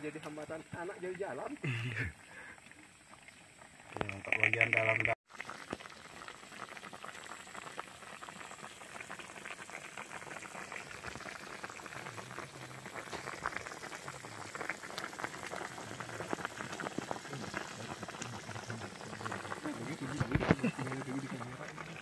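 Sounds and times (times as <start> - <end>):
food bubbling and crackling in pan: 0.0 - 22.0.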